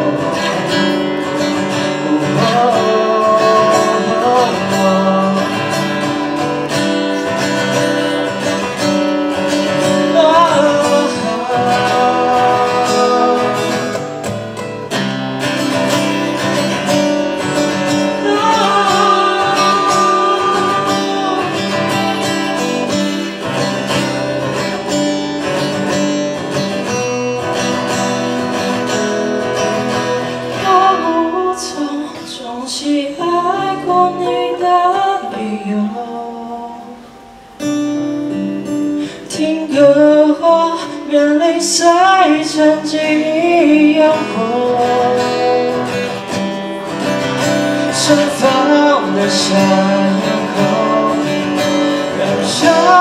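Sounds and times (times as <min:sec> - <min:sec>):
acoustic guitar ballad: 0:00.0 - 0:53.0.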